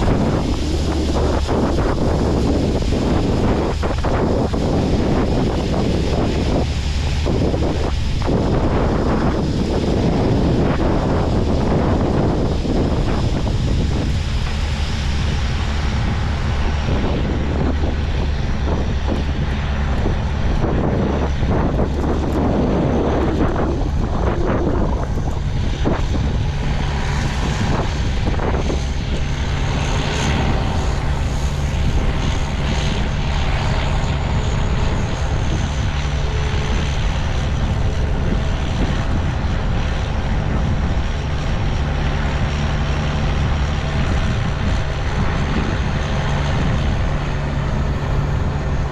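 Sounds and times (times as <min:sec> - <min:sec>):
diesel machinery engine drone: 0:00.0 - 0:48.9.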